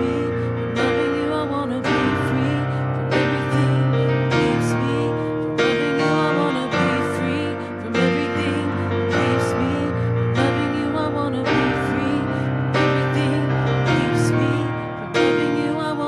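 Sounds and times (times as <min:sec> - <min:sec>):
sustained piano chords: 0:00.0 - 0:16.0
voices singing: 0:00.0 - 0:16.0.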